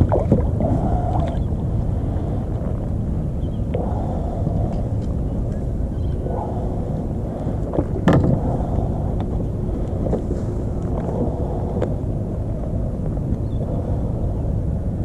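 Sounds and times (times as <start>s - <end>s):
low rumble on microphone: 0.0s - 15.0s.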